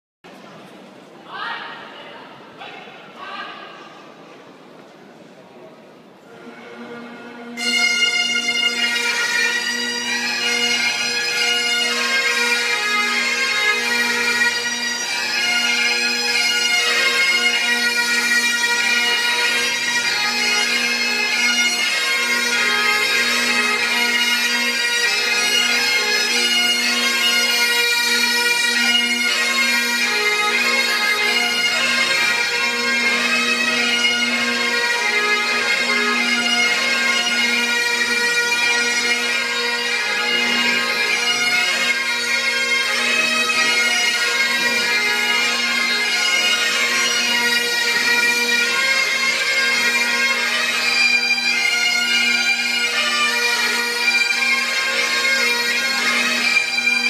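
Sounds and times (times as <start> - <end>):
bagpipe drones: 6.2 - 57.0
bagpipes playing a tune: 6.3 - 57.0.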